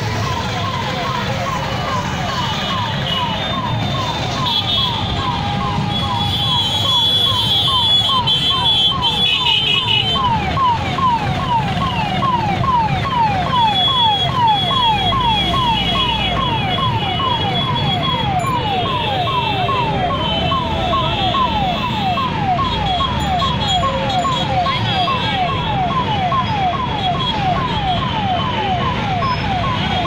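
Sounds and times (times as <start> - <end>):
ambulance siren wailing: 0.0 - 30.0
traffic rumble: 0.0 - 30.0.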